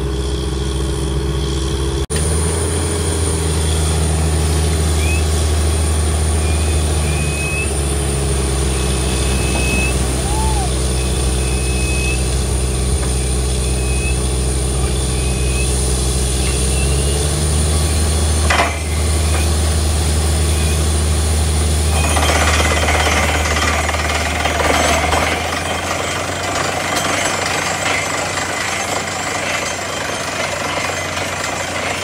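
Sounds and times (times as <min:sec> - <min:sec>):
drilling rig droning and hammering: 0:00.0 - 0:32.0
slurry rushing from bore: 0:00.0 - 0:32.0.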